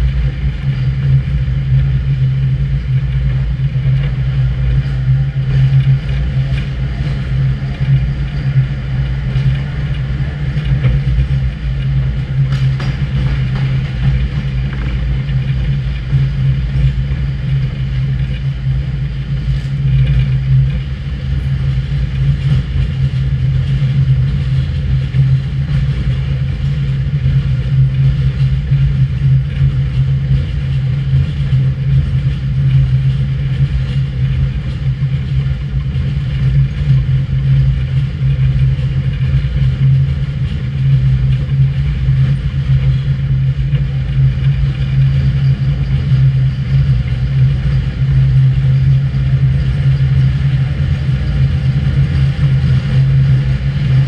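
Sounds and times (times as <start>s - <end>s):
electric train hum: 0.0s - 54.0s
wheels rumbling on rail: 0.0s - 54.0s.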